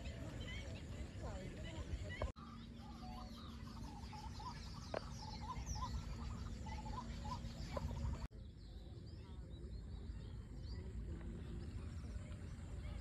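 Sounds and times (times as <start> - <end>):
bird chirps and twitters: 0.0 - 13.0.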